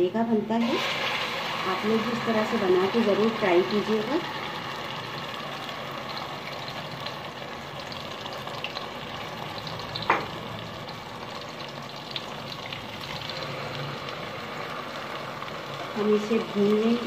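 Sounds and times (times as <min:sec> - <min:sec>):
paste sizzling in hot oil: 0:00.6 - 0:17.0.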